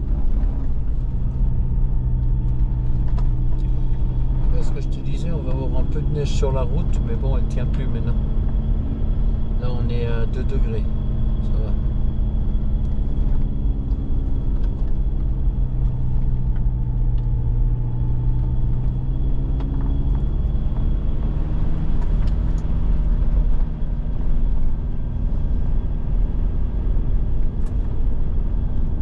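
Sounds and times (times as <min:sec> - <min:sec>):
tyre and road rumble: 0:00.0 - 0:29.0
vehicle engine running: 0:00.0 - 0:29.0.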